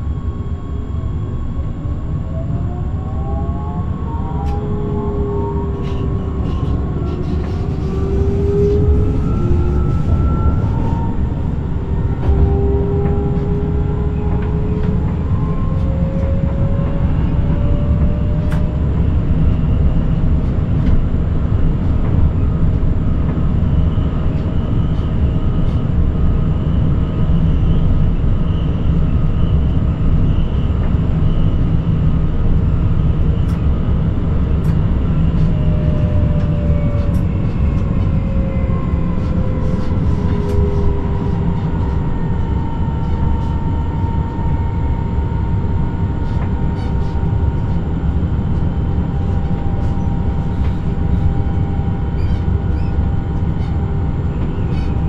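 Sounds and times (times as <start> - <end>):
wheels rumbling on rails: 1.5 - 28.3, 28.9 - 55.0.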